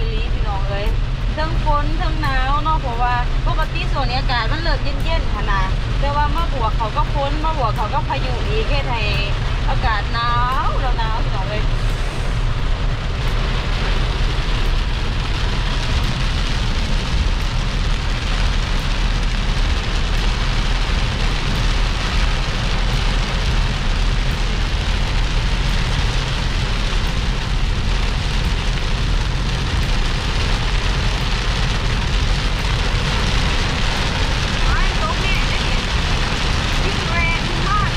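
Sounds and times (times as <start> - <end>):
deep rumble: 0.0 - 37.9
heavy rain falling: 0.0 - 37.9.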